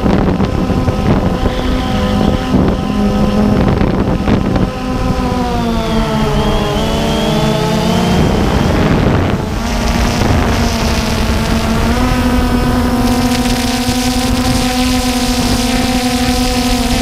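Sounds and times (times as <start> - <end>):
drone propellers whining: 0.0 - 17.0
rush of noise: 0.0 - 17.0.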